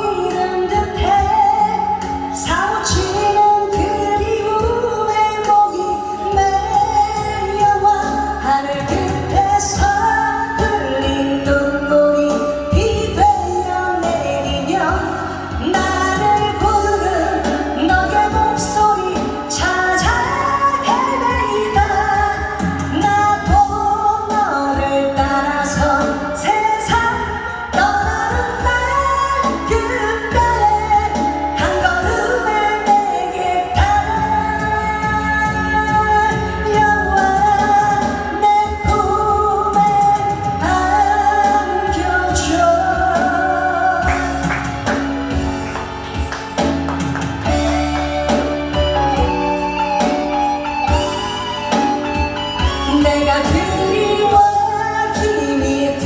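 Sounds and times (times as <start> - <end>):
instrumental accompaniment: 0.0 - 56.0
person singing pop song: 0.0 - 56.0.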